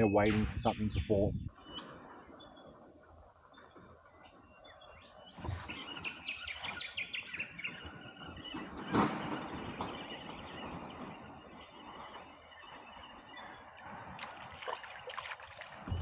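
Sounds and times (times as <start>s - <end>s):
birds chirping: 0.0s - 16.0s
river ambience: 0.0s - 16.0s.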